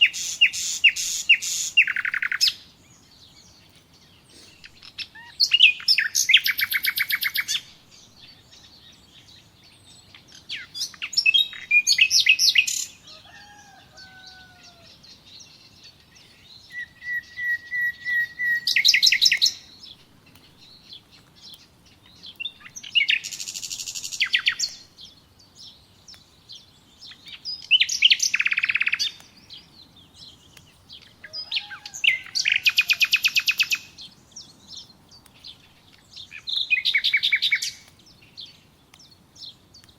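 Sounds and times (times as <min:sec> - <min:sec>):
songbird chirping trills: 0:00.0 - 0:39.9.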